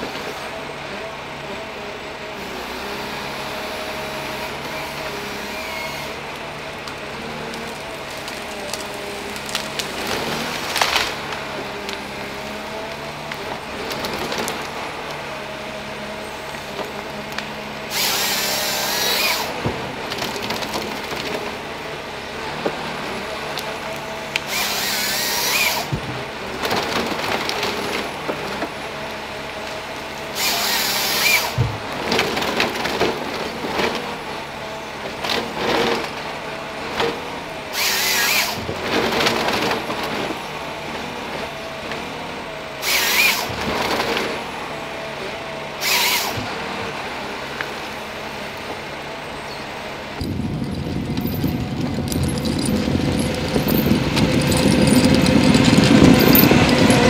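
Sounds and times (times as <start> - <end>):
forest harvester running: 0.0 - 57.0
chainsaw cross-cuts: 2.3 - 57.0.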